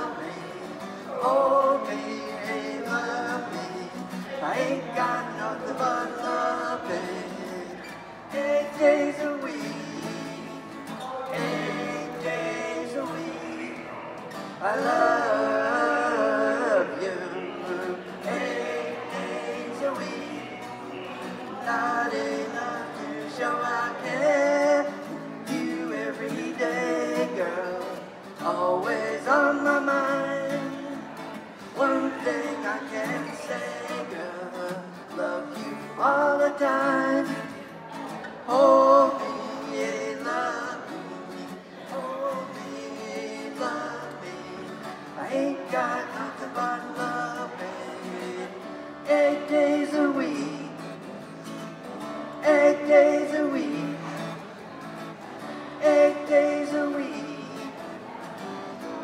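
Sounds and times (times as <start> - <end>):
man singing: 0.0 - 54.8, 55.4 - 58.2
acoustic guitar: 0.0 - 59.0.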